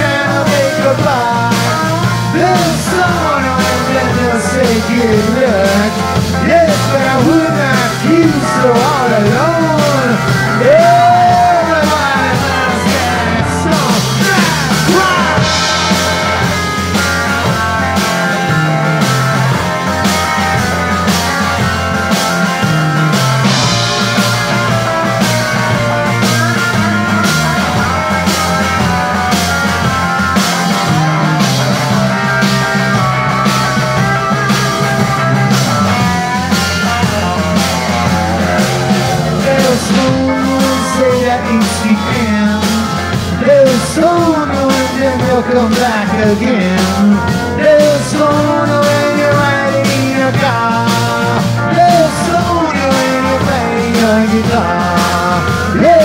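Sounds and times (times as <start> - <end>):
bass guitar: 0.0 - 56.0
drum beat: 0.0 - 56.0
electric guitar lead: 0.0 - 56.0.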